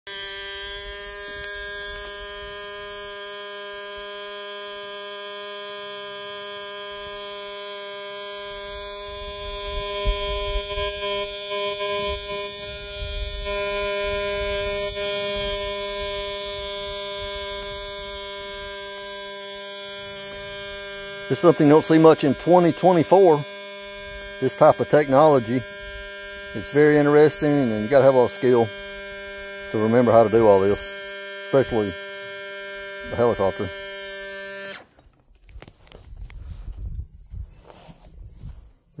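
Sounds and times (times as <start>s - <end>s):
electric fuel pump buzzing whine: 0.0s - 39.0s.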